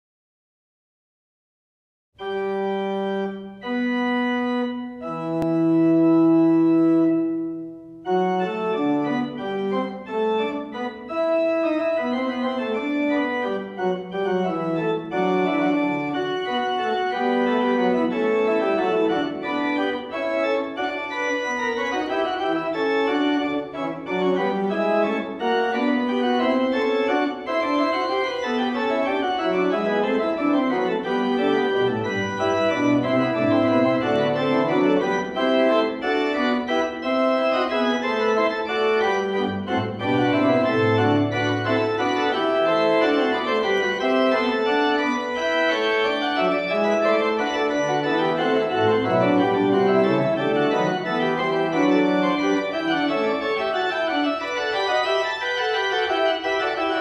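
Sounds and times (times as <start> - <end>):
pipe organ playing: 2.2 - 57.0.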